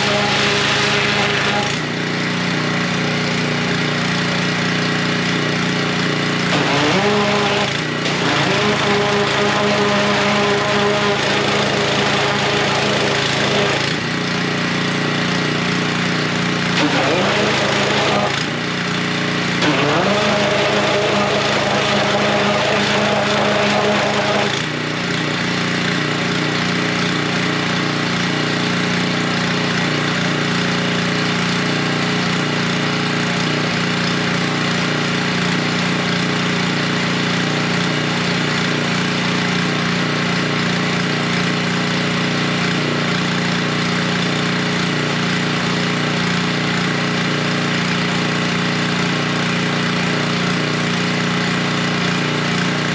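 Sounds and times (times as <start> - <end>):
pressure washer engine running: 0.0 - 52.9.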